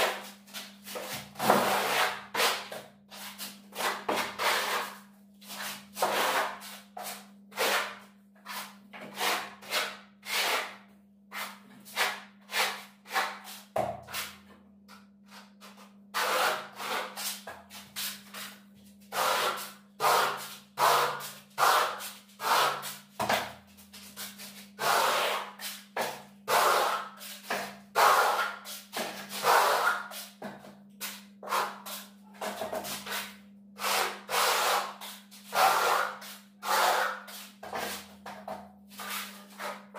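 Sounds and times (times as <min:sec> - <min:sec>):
trowel scraping plaster: 0:00.0 - 0:14.4, 0:15.4 - 0:18.5, 0:19.1 - 0:23.1, 0:23.8 - 0:30.4, 0:31.4 - 0:38.3, 0:38.9 - 0:39.9.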